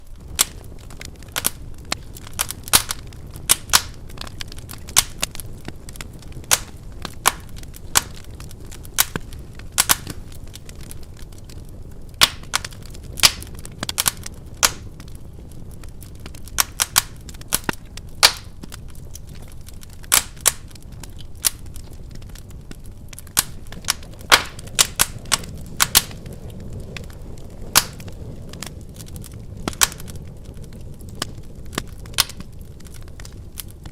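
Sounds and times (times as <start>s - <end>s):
low rush of burning fire: 0.0s - 33.9s
wood fire crackling and popping: 0.0s - 33.9s.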